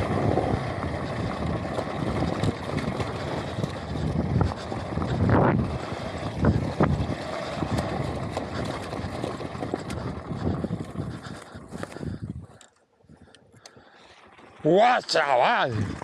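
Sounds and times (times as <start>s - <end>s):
wind rushing over microphone: 0.0s - 12.6s, 15.7s - 16.0s
rough rattling of motorbike: 0.0s - 16.0s.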